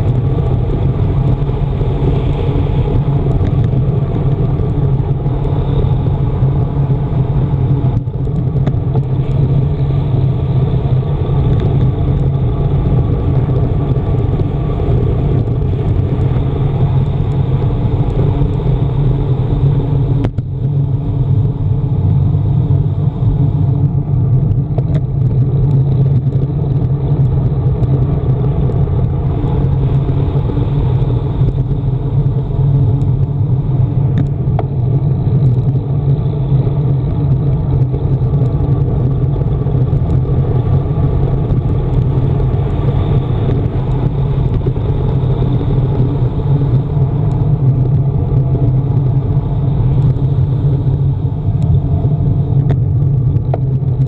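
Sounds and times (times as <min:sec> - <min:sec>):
bike tyre noise: 0:00.0 - 0:54.0
wind rushing on microphone: 0:00.0 - 0:54.0.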